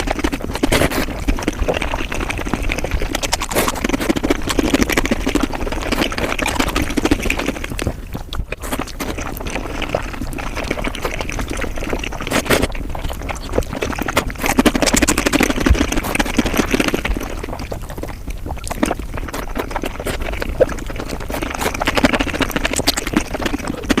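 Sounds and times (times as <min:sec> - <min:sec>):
fast chewing and mouth noises: 0:00.0 - 0:24.0.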